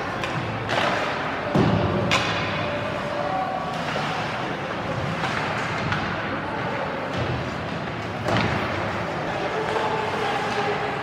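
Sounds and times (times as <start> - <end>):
arena noise: 0.0 - 11.0
skates on ice: 0.0 - 11.0.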